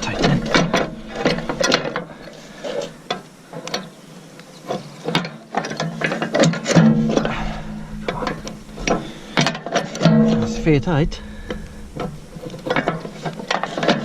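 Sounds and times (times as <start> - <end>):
steady low hum: 0.0 - 4.4, 6.7 - 14.0.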